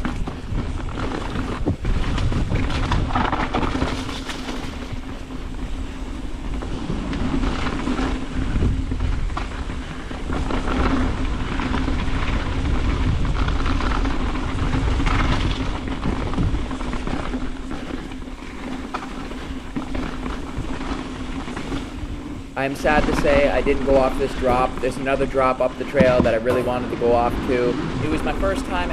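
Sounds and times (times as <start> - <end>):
bike chain and frame rattling: 0.0 - 28.9
bike tyres rumbling over rock: 0.0 - 28.9.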